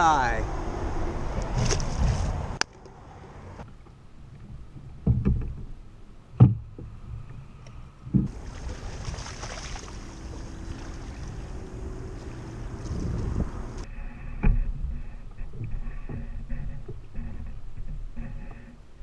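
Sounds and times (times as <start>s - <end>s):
wind and water rushing against hull: 0.0s - 19.0s.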